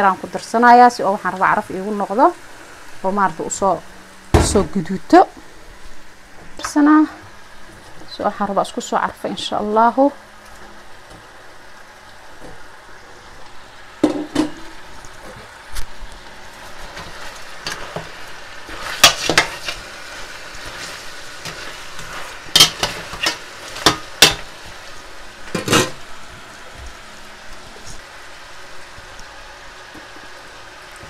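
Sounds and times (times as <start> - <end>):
meat sizzling: 0.0 - 31.0.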